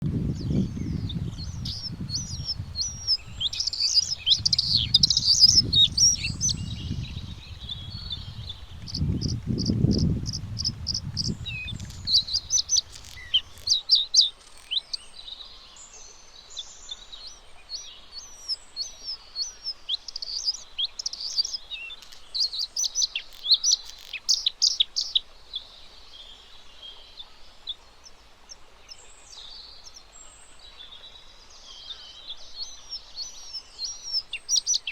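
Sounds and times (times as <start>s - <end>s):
bird singing: 0.0s - 25.7s, 28.8s - 34.9s.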